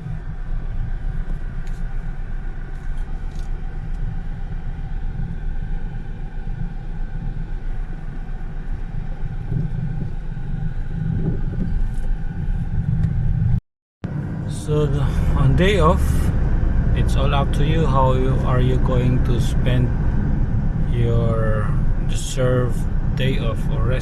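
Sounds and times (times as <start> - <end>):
car engine and road noise: 0.0 - 24.0
faint steady tones: 0.0 - 24.0.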